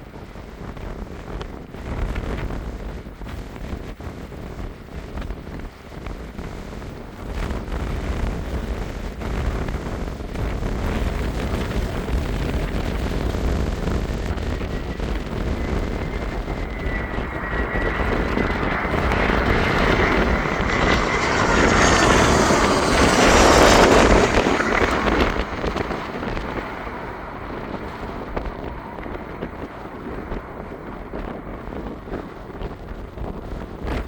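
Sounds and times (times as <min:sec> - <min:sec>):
wind buffeting microphone: 0:00.0 - 0:34.0
jet airliner passing: 0:05.8 - 0:34.0.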